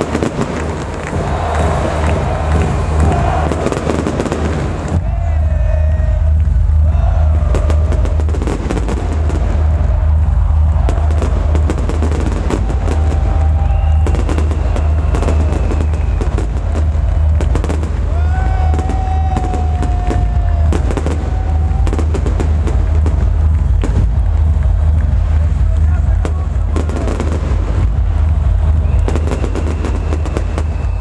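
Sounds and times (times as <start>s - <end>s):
fireworks crackling and banging: 0.0s - 5.0s, 7.3s - 31.0s
dance music with pulsing bass: 0.0s - 31.0s.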